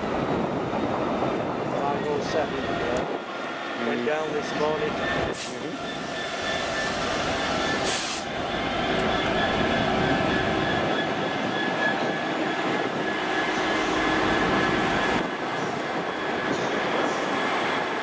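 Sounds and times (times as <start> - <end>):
diesel locomotive engine running: 0.0 - 18.0
wheels rumbling over rails: 0.0 - 18.0.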